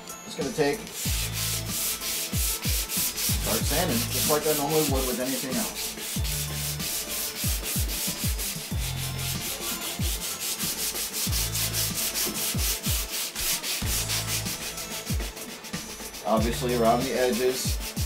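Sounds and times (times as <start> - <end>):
sandpaper rubbing on metal panel: 0.8 - 18.0.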